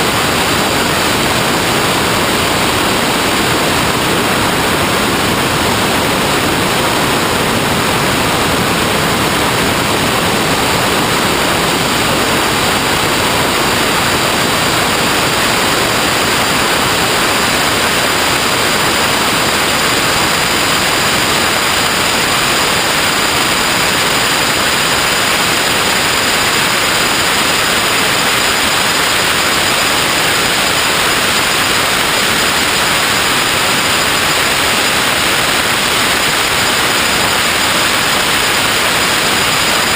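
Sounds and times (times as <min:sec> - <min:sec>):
loud steady hiss: 0:00.0 - 0:39.9.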